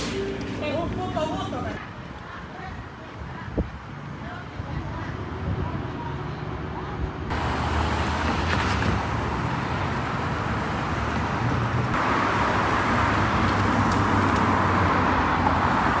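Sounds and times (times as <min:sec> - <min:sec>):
moving vehicle rumble and hiss: 0:00.0 - 0:16.0.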